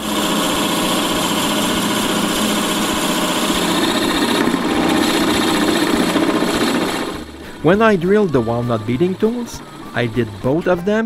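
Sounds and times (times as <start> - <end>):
power drill boring wood: 0.0 - 11.0.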